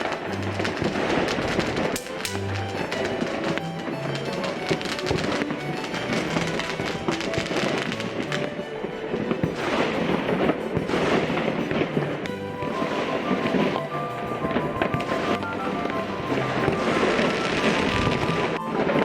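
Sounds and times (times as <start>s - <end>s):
classical music: 0.0s - 19.0s
fireworks crackling bangs: 0.0s - 19.0s.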